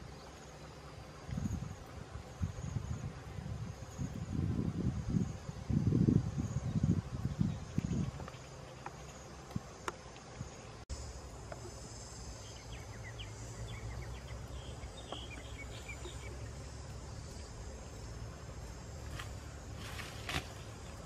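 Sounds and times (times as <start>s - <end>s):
insect chorus chirring: 0.0s - 21.0s.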